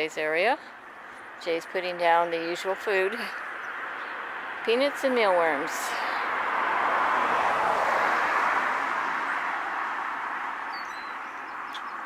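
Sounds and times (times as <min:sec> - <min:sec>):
passing traffic rushing: 0:00.0 - 0:12.0.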